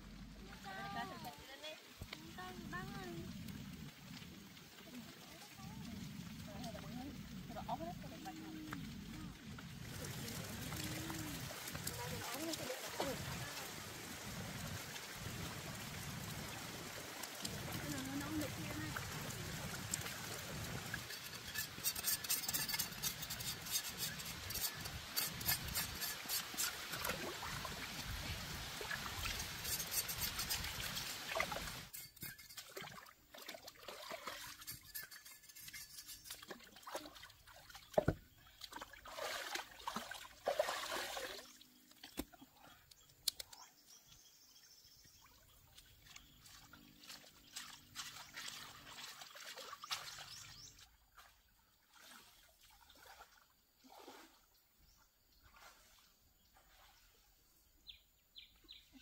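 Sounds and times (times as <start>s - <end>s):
water splashing and trickling: 0.0s - 59.0s.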